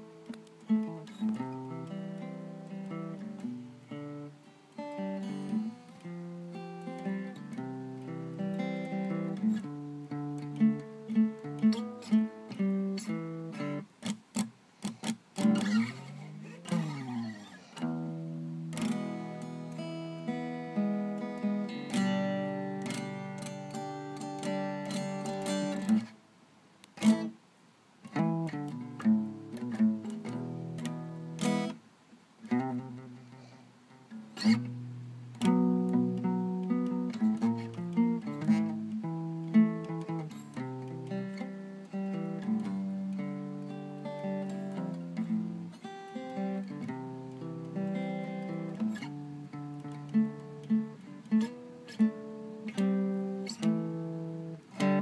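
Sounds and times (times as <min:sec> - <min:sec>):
acoustic guitar strummed: 0:00.0 - 0:26.2, 0:27.0 - 0:27.4, 0:28.0 - 0:31.8, 0:32.4 - 0:55.0.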